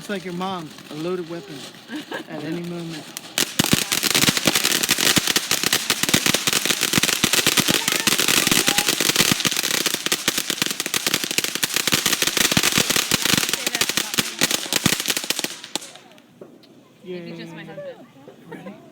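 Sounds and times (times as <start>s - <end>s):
firecrackers cracking: 0.0s - 16.5s.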